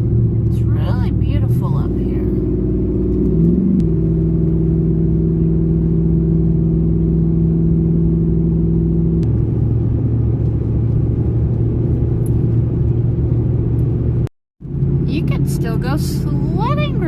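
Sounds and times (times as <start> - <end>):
car engine hum: 0.0 - 17.0
road rumble: 0.0 - 17.0.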